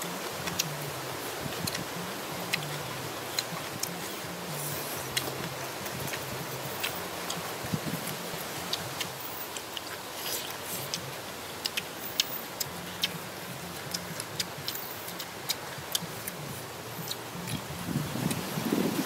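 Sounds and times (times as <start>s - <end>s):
people chewing with mouth smacks: 0.0s - 19.0s
steady hiss: 0.0s - 19.0s.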